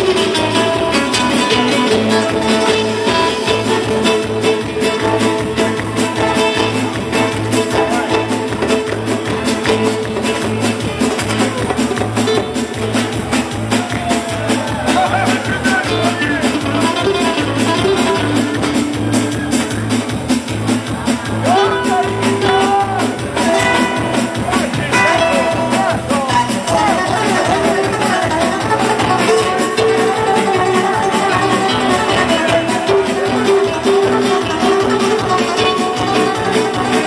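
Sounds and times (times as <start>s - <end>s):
live band dance music: 0.0s - 37.0s.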